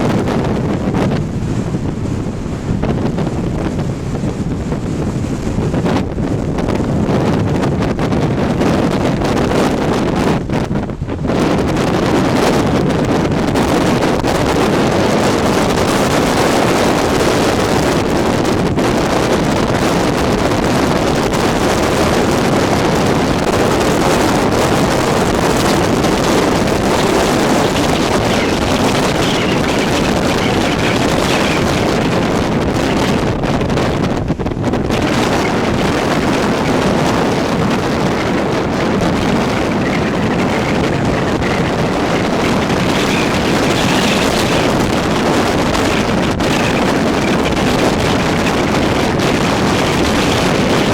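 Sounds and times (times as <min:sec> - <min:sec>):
strong wind buffeting microphone: 0:00.0 - 0:50.9.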